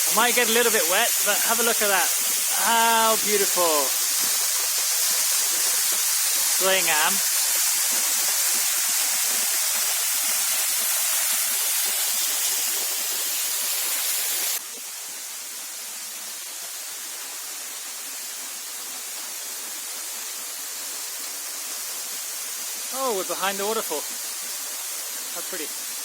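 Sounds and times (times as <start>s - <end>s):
waterfall rushing: 0.0s - 14.7s, 15.4s - 26.0s.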